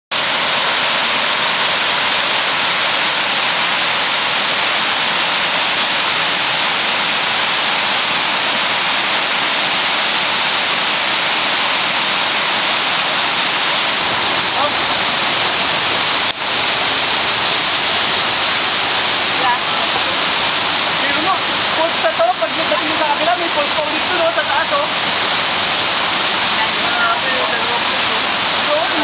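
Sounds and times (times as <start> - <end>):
waterfall rushing: 0.1 - 29.0.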